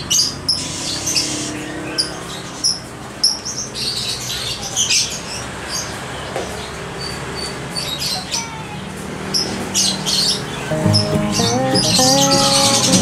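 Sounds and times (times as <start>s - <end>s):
birds giving high chirps: 0.0s - 13.0s.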